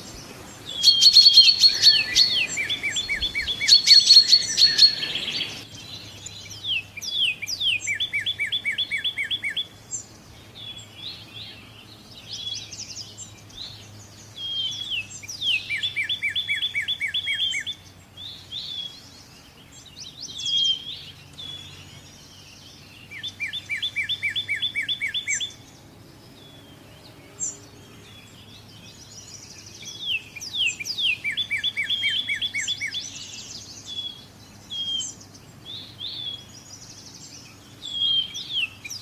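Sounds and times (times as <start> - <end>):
songbird whistles and trill: 0.0 - 11.6, 12.2 - 19.2, 20.1 - 25.8, 28.8 - 39.0
faint low background hum: 0.0 - 39.0.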